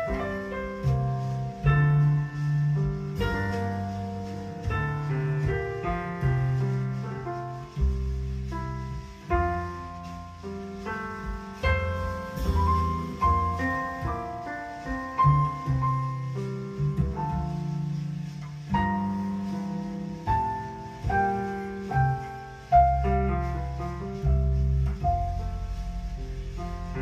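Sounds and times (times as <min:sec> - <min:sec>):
piano music over loudspeakers: 0:00.0 - 0:27.0.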